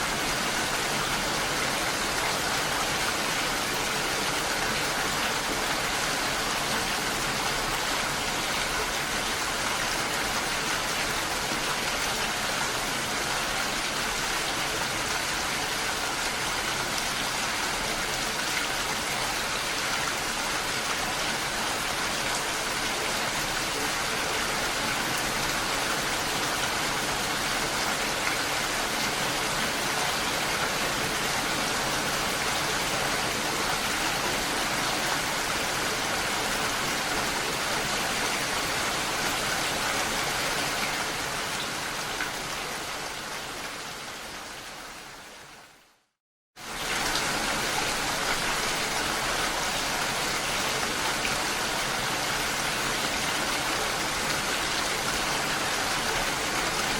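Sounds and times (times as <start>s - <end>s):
gentle rain falling: 0.0s - 56.9s
waterfall: 0.0s - 56.9s.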